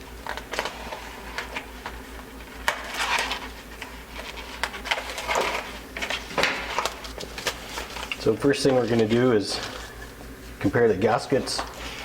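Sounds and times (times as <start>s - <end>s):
packaging rustling and clicking: 0.2s - 10.2s.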